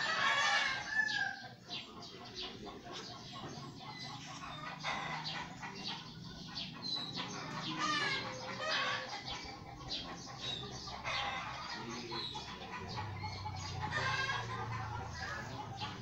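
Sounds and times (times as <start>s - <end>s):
birds chirping and clucking: 0.0s - 16.0s.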